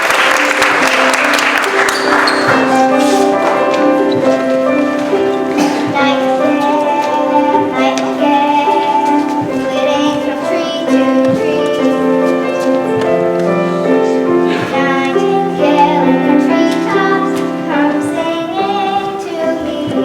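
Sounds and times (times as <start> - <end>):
children singing: 0.0 - 20.0
instrumental accompaniment: 0.0 - 20.0.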